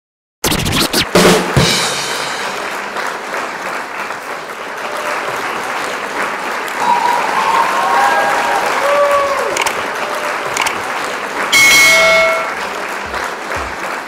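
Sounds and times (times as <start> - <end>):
crowd applauding: 1.2 - 14.0.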